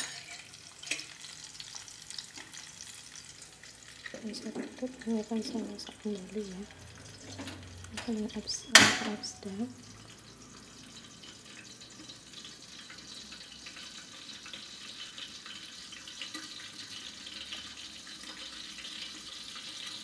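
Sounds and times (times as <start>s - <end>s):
chicken sizzling in frying pan: 0.0s - 20.0s.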